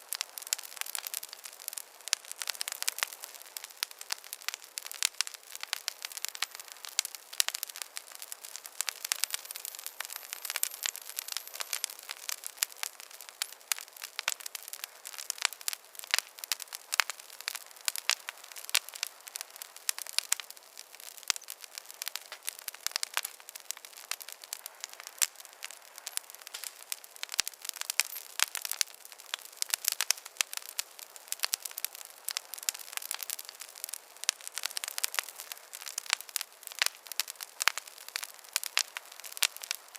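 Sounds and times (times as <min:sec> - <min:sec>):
fire pops and snaps: 0:00.1 - 0:39.9
fire hissing: 0:00.2 - 0:39.5.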